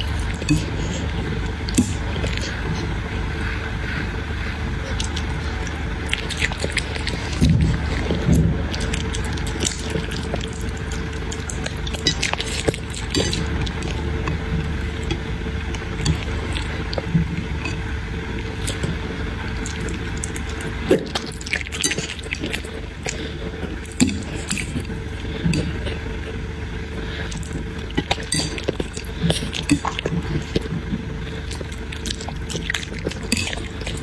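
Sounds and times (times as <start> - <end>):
puppy eating wet food: 0.0 - 34.0
steady low hum: 0.0 - 34.0.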